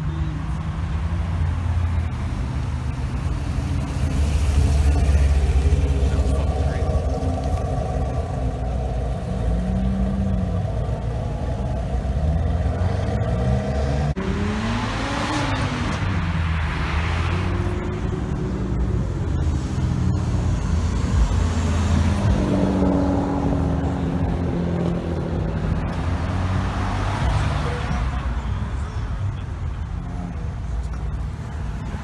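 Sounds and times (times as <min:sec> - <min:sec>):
engine revving up: 0:00.0 - 0:28.9
car passing loudly: 0:00.0 - 0:29.3
car engines rumbling: 0:00.0 - 0:32.0.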